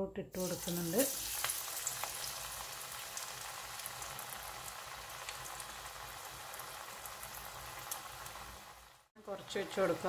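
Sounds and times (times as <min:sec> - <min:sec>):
dough sizzling in hot oil: 0:00.4 - 0:10.0.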